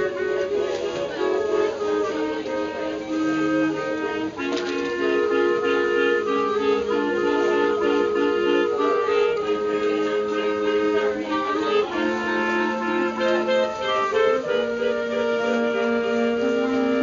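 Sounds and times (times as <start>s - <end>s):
clarinet ensemble playing: 0.0s - 17.0s.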